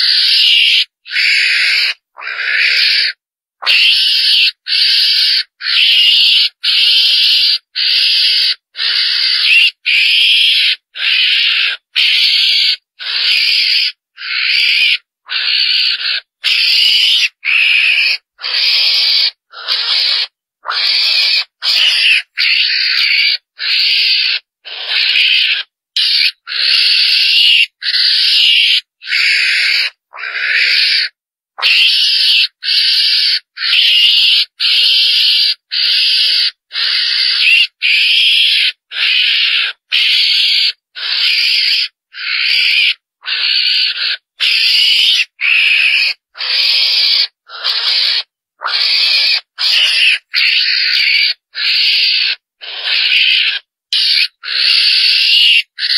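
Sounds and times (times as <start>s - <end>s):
raspy squealing lure call: 0.0s - 55.9s.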